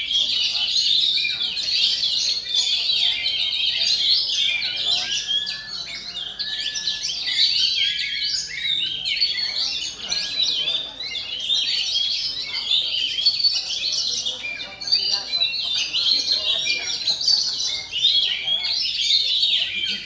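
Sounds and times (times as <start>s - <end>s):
bird singing chirps and whistles: 0.1s - 20.0s.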